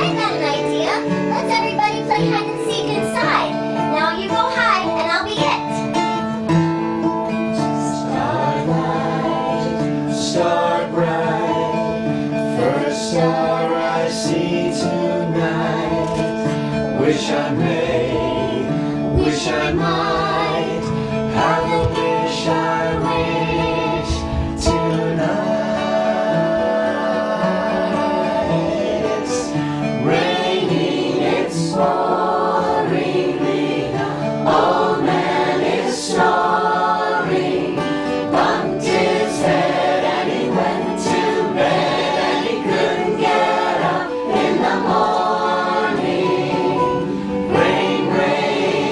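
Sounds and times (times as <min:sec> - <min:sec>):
acoustic guitar: 0:00.0 - 0:48.9
group singing in harmony: 0:06.0 - 0:48.9.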